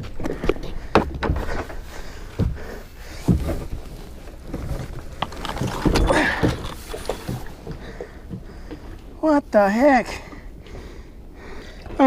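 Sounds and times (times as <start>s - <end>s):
water sloshing and splashing: 0.1s - 12.0s.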